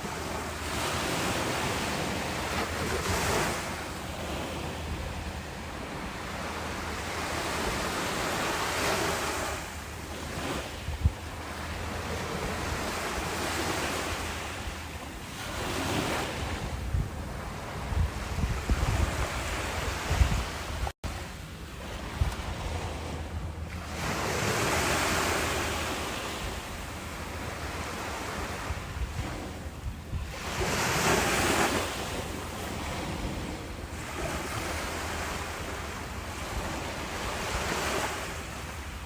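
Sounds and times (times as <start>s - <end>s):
ocean waves washing: 0.0s - 39.0s
wind buffeting microphone: 0.0s - 39.0s.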